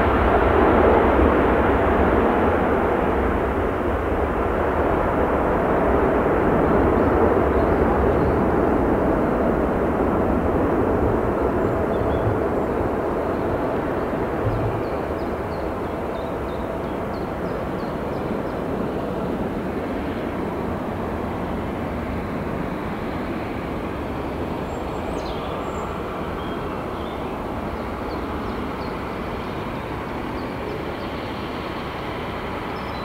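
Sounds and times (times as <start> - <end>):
deep jet engine rumble: 0.0 - 33.0.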